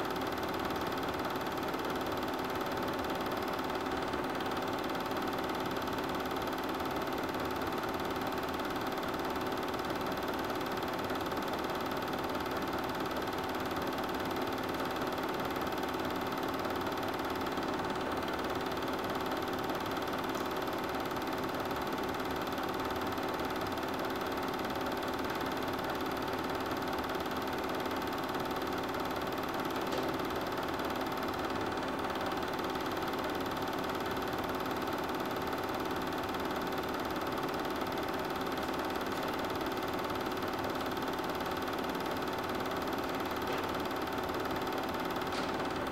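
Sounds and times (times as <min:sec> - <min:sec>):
film projector whirring: 0:00.0 - 0:45.9.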